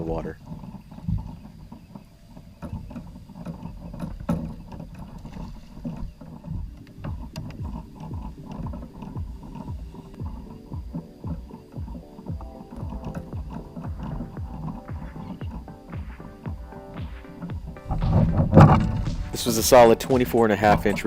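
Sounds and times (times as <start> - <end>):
low thumps: 0.0 - 21.0
water around kayak hull: 0.0 - 21.0.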